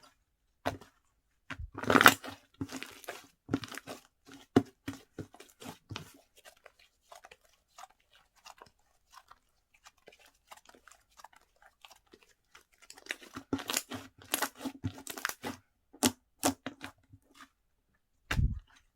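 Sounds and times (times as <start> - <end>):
hands squishing slime: 0.7 - 17.6.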